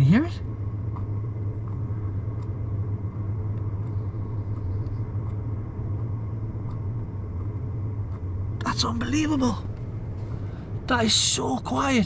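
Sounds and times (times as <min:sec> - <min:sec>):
diesel heater humming: 0:00.0 - 0:12.0.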